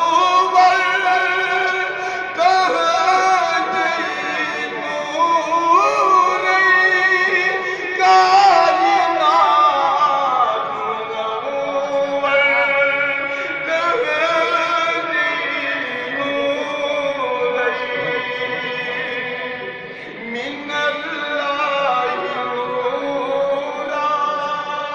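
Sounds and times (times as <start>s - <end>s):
man singing a melodic chant: 0.0s - 24.9s.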